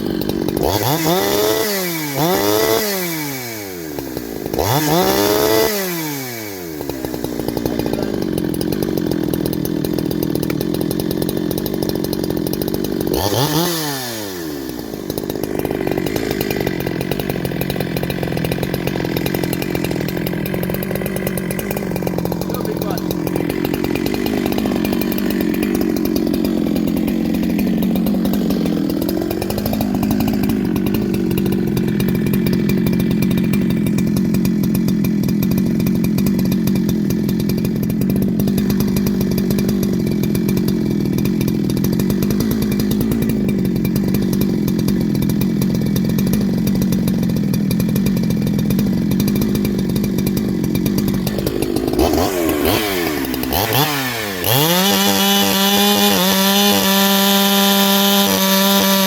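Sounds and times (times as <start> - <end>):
chainsaw running at high revs: 0.0 - 59.0.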